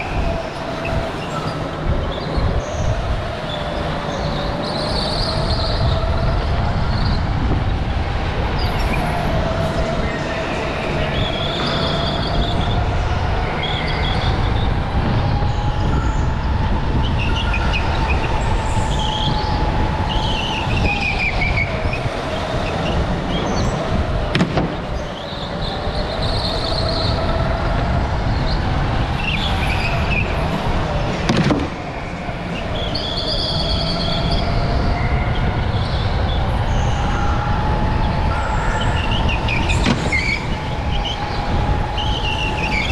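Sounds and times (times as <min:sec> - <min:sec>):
go-kart motor whine: 0:00.0 - 0:42.9.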